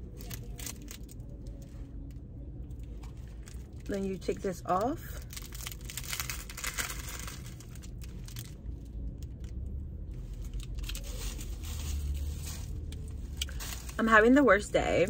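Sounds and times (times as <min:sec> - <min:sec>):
plastic film wrapper crinkling: 0:00.0 - 0:14.4.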